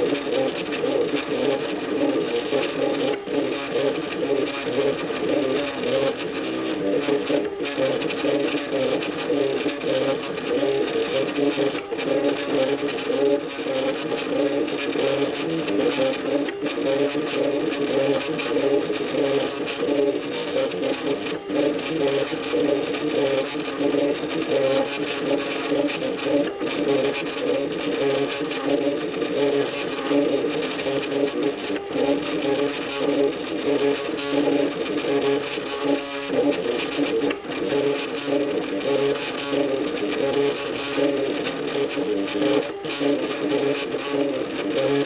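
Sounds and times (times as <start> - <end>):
stepper motors whirring: 0.0 - 45.0.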